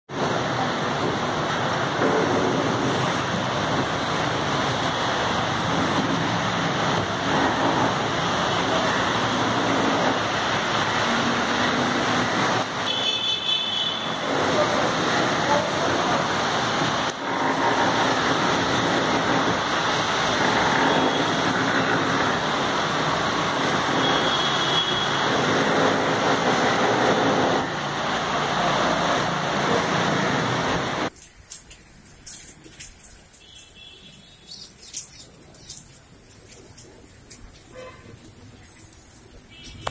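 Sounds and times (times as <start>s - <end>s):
rain falling on trees and street: 0.1s - 39.9s.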